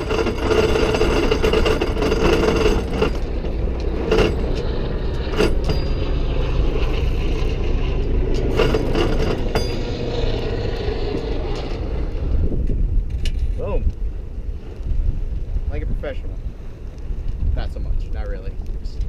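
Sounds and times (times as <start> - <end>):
wind and water rumble: 0.0 - 19.0.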